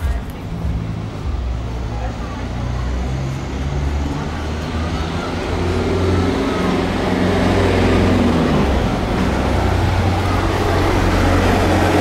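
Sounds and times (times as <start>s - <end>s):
heavy vehicle engine humming: 0.0s - 12.0s
road traffic: 0.0s - 12.0s.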